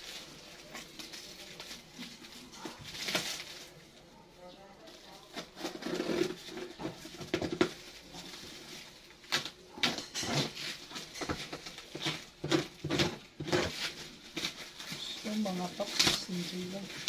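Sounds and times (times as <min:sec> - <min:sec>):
packaging rustling and scraping: 0:00.0 - 0:04.1, 0:04.8 - 0:17.0.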